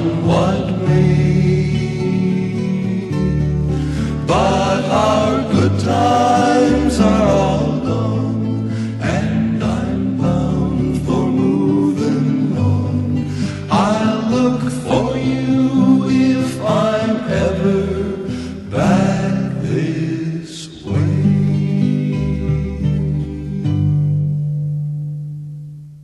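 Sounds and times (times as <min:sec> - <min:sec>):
voices singing in harmony: 0:00.0 - 0:23.5
acoustic guitar: 0:00.0 - 0:26.0.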